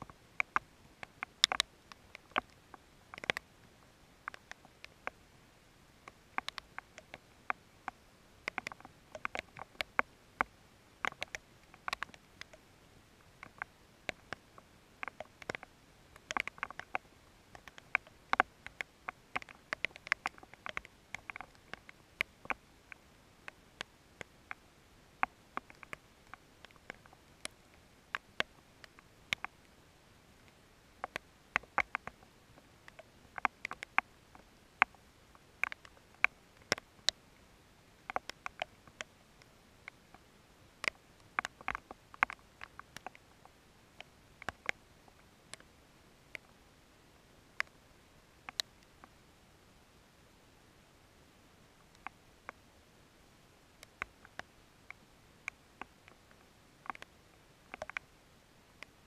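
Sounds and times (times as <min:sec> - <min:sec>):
raindrops ticking on camera: 0:00.0 - 0:46.6, 0:47.6 - 0:49.2, 0:53.7 - 0:58.2.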